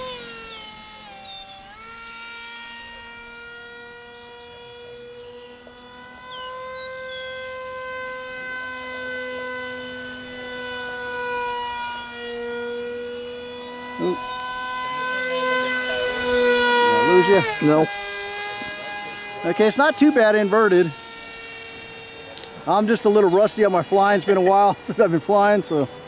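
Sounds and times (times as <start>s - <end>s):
model plane motor whine: 0.0s - 26.0s.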